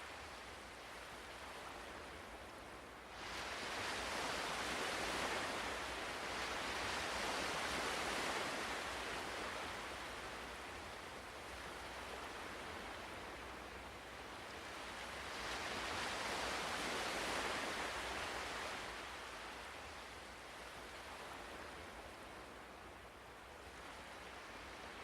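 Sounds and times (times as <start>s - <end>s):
ocean waves on shore: 0.0s - 25.0s.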